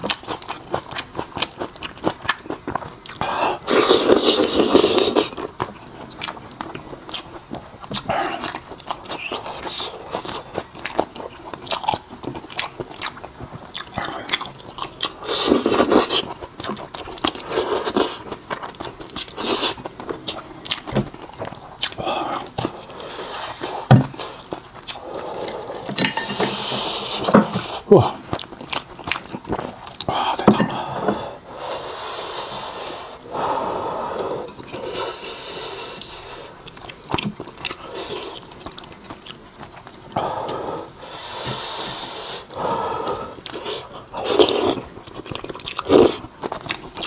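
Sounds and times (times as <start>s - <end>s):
wet chewing and lip-smacking: 0.0s - 25.9s, 26.7s - 30.6s, 34.4s - 41.0s, 43.3s - 47.0s.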